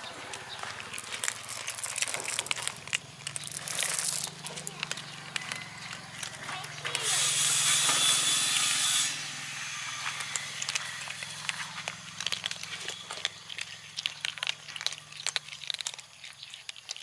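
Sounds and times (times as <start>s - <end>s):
kittens crunching dry kibble: 0.0s - 17.0s.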